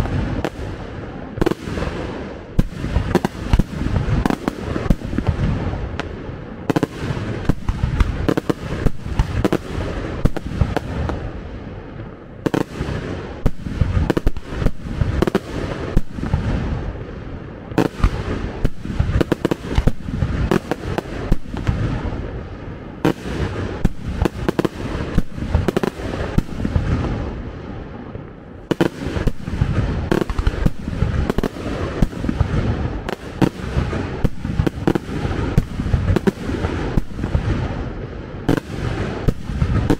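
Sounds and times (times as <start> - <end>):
fireworks banging: 0.0 - 39.9.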